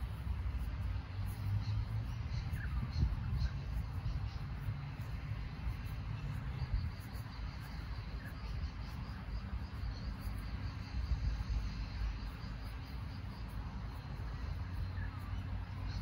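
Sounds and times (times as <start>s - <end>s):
insects chirping: 0.0s - 16.0s
steady low rumble: 0.0s - 16.0s.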